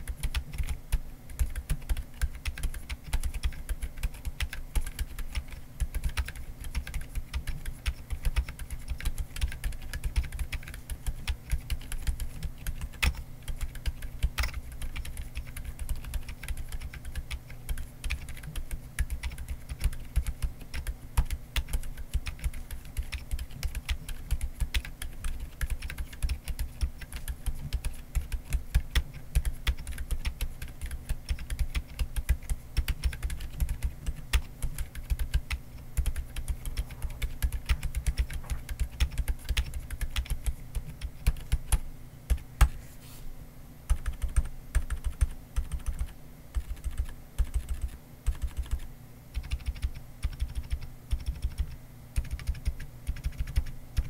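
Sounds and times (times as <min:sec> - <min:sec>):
keyboard typing: 0:00.0 - 0:42.8, 0:43.9 - 0:54.0.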